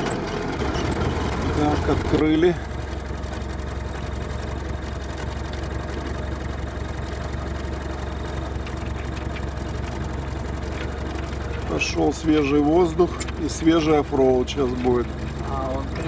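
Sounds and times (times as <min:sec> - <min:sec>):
engine drone inside cab: 0:00.0 - 0:16.0.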